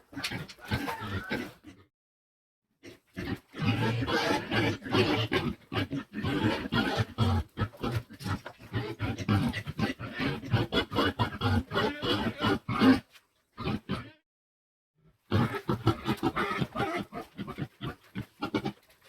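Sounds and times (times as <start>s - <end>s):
pig grunting: 0.0s - 1.9s, 2.8s - 14.2s, 15.2s - 18.9s.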